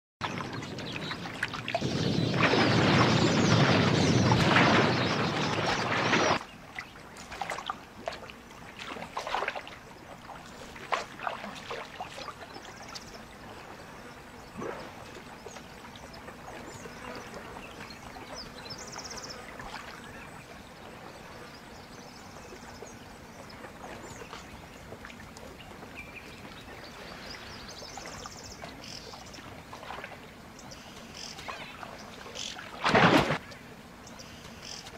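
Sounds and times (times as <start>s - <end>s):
small water splashes: 0.2s - 33.7s
water lapping and trickling: 0.2s - 34.9s.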